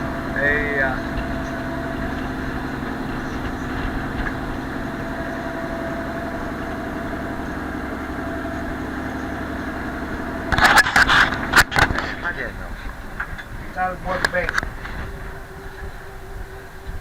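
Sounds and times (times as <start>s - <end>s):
boat engine drone: 0.0s - 17.0s
loud noisy bursts: 0.0s - 17.0s.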